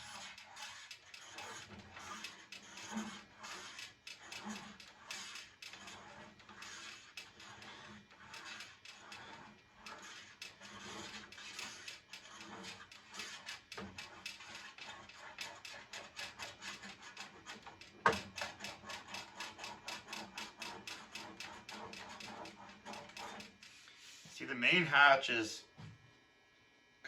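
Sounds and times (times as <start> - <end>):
wax rubbing strokes on metal: 0.0 - 17.8, 18.4 - 24.4.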